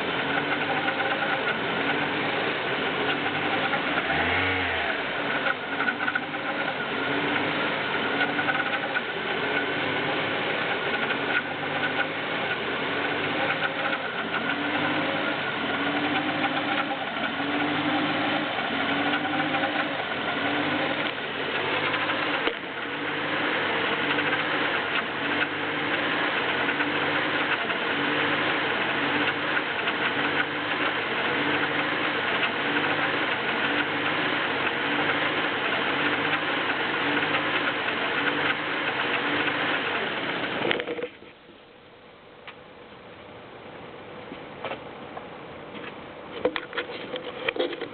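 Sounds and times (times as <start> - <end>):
car engine idling pulsing: 0.0 - 41.7.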